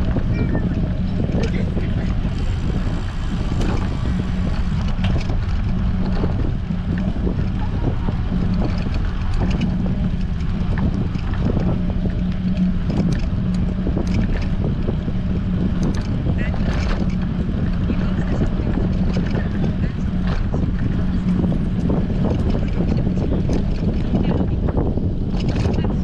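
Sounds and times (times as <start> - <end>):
low steady hum: 0.0 - 26.0
wind buffeting microphone: 0.0 - 26.0.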